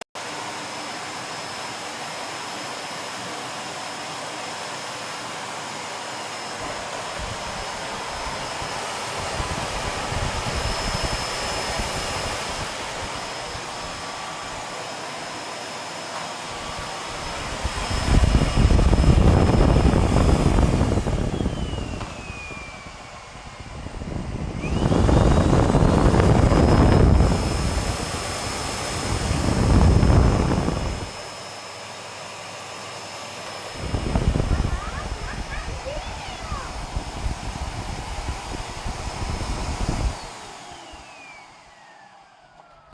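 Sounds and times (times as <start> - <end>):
vacuum cleaner motor whine: 0.2 - 42.9.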